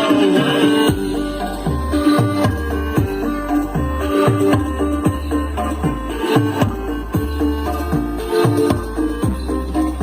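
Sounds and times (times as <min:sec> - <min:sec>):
electronic dance music: 0:00.0 - 0:10.0
pitch-dropping kick drum: 0:00.8 - 0:10.0.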